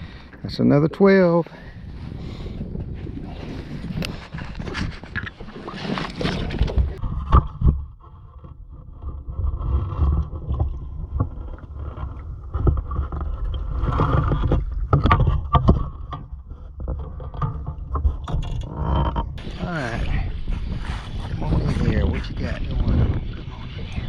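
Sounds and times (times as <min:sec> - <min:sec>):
wind rumbling on microphone: 0:00.0 - 0:24.0
water lapping against boat hull: 0:03.5 - 0:24.0.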